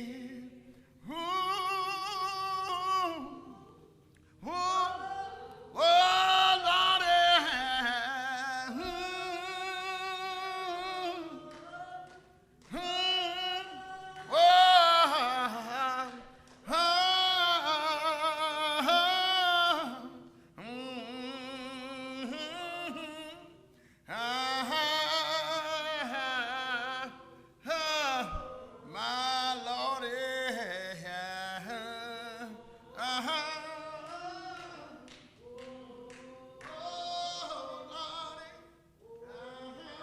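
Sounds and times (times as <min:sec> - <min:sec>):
unaccompanied hymn singing: 0:00.0 - 0:40.0.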